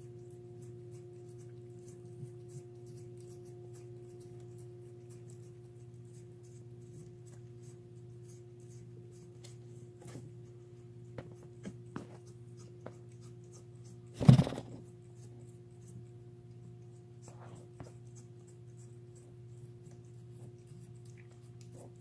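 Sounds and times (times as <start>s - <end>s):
cat teeth gnawing on bone: 0.0s - 22.0s.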